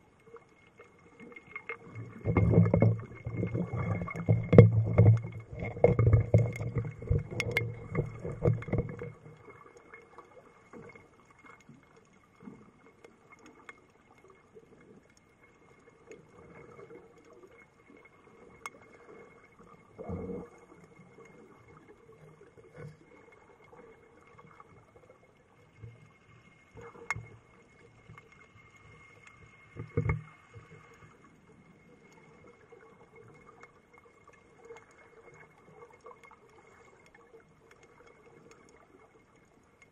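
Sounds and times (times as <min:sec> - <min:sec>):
faint steady water noise: 0:00.0 - 0:39.9
underwater churning and bubbles: 0:00.0 - 0:39.9.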